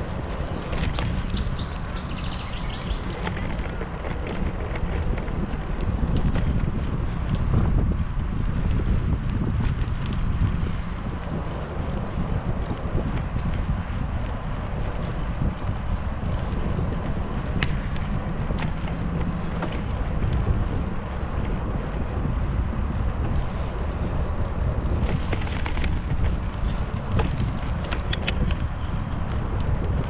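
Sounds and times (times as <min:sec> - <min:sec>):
tyres rolling on rough asphalt: 0:00.0 - 0:30.0
wind buffeting microphone: 0:00.0 - 0:30.0.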